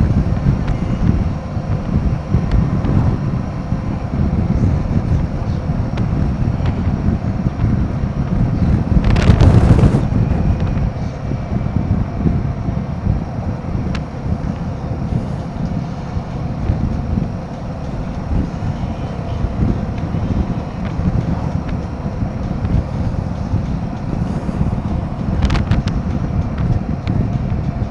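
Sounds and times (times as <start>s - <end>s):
motorcycle rumble: 0.0s - 27.9s
wind buffeting microphone: 0.0s - 27.9s.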